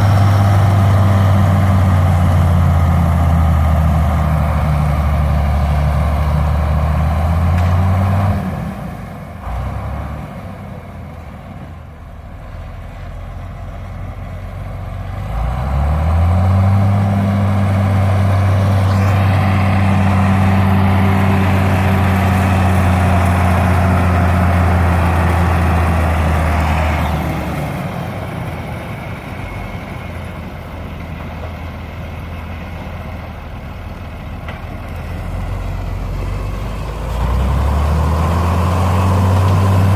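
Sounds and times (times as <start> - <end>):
large engine revving: 0.0 - 10.8, 12.4 - 30.4, 34.8 - 39.9.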